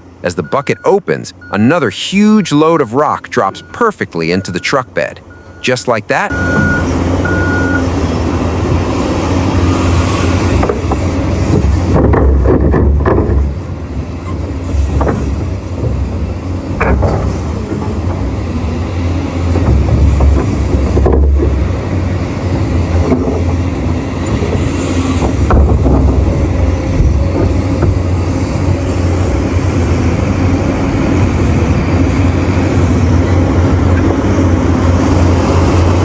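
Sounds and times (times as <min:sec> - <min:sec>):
loud low diesel drone: 0:00.0 - 0:36.0.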